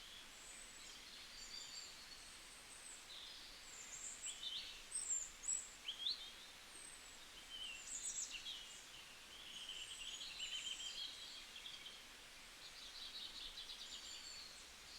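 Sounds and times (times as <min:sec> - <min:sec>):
light steady hiss: 0:00.0 - 0:14.9.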